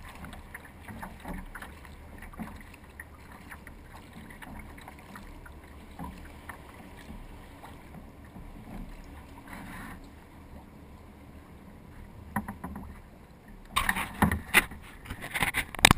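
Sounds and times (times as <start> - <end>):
water lapping against hull: 0.0 - 15.9.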